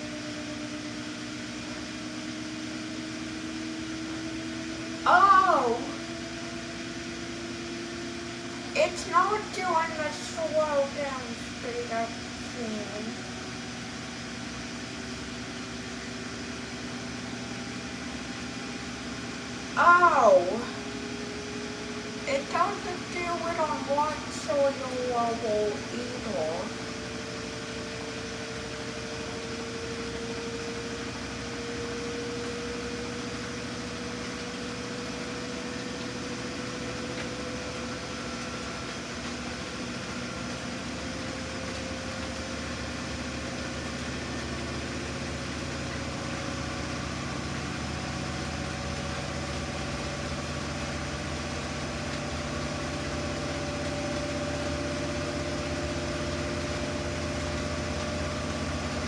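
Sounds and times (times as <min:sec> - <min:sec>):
motor whine climbing: 0:00.0 - 0:59.0
washing machine spinning: 0:00.0 - 0:59.0.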